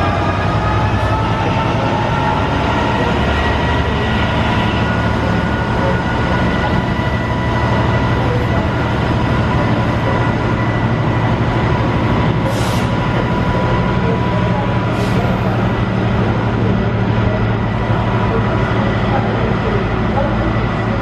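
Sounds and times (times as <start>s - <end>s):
diesel locomotive drone: 0.0s - 21.0s
locomotive whine: 0.0s - 21.0s.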